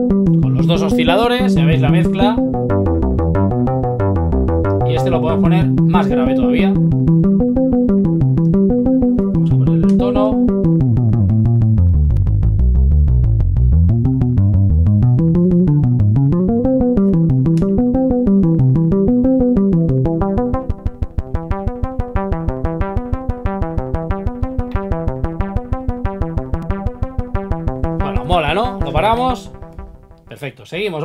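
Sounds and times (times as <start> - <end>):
deep bass: 0.0 - 30.2
synthesizer arpeggio: 0.0 - 30.2.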